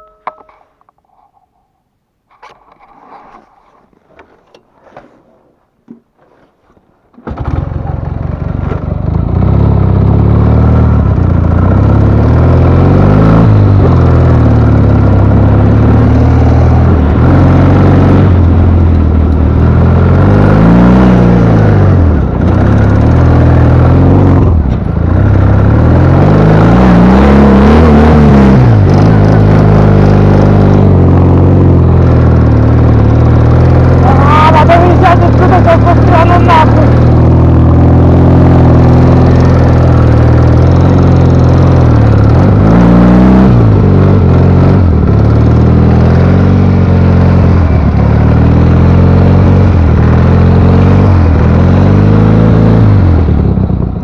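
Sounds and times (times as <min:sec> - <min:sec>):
motorcycle engine revving: 0:07.2 - 0:54.0.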